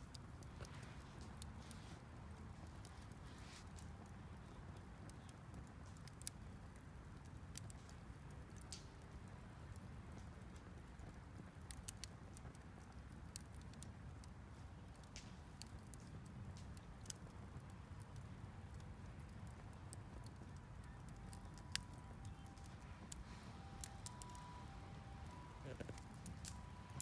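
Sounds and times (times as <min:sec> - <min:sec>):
low steady fire rumble: 0:00.0 - 0:27.0
wood fire crackling and popping: 0:00.0 - 0:27.0.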